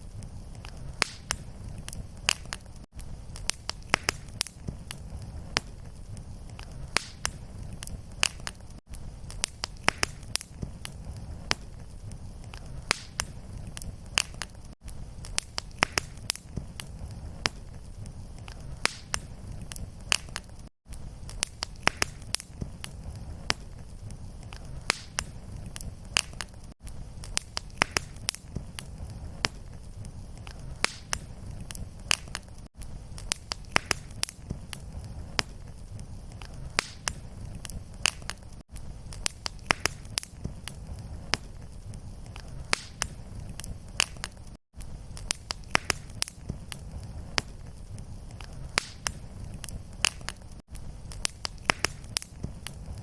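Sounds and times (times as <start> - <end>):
fire popping and snapping: 0.0 - 53.0
low rumble of flame: 0.0 - 53.0.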